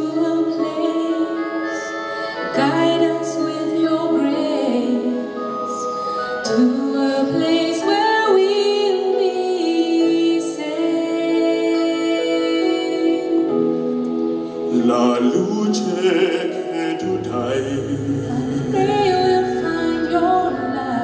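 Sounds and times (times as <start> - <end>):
woman singing slow song: 0.0 - 14.7, 17.8 - 21.0
live band with keyboard: 0.0 - 21.0.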